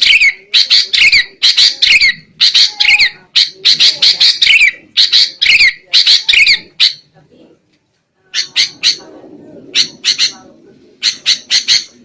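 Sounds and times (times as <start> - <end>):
bird harsh chattering calls: 0.0 - 7.1, 8.3 - 9.1, 9.7 - 12.0.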